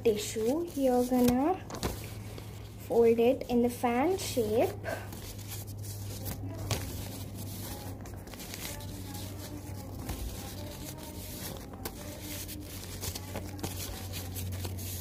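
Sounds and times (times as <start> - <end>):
steady low hum: 0.0 - 15.0
tissue paper rustling and crinkling: 0.1 - 2.7, 4.1 - 15.0.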